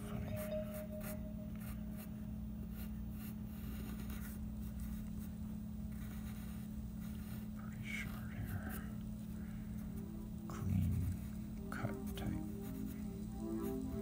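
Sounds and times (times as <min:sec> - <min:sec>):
pencil scratching on paper: 0:00.0 - 0:08.9, 0:10.6 - 0:13.1
low steady hum: 0:00.0 - 0:14.0.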